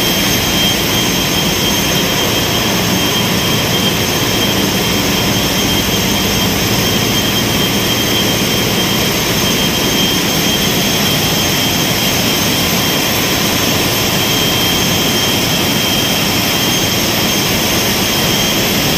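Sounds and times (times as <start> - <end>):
diesel engine drone: 0.0 - 18.9
high-pitched whine: 0.0 - 18.9.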